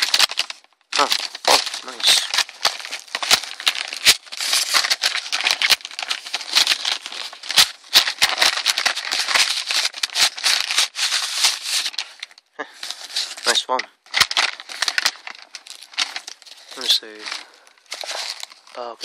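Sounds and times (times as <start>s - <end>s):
paper envelope rustling and crinkling: 0.0s - 19.0s.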